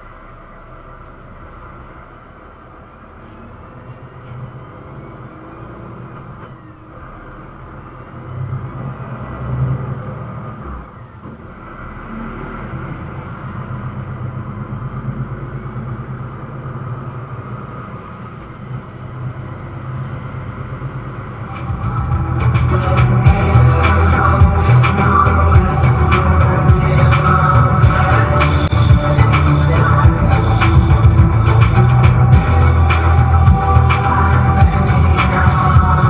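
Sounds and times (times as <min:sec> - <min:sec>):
heavy truck engine rumbling: 0:00.0 - 0:36.0
road noise: 0:00.0 - 0:36.0.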